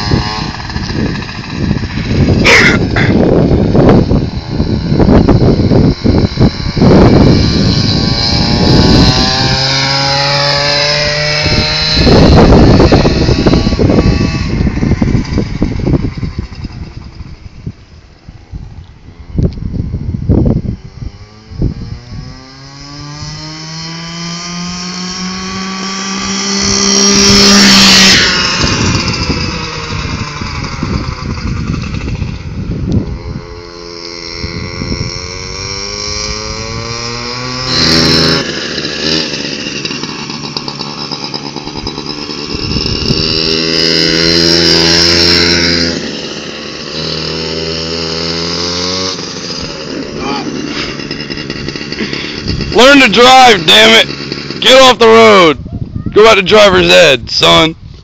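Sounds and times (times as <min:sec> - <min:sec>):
small kart engine revving: 0:00.0 - 0:55.6.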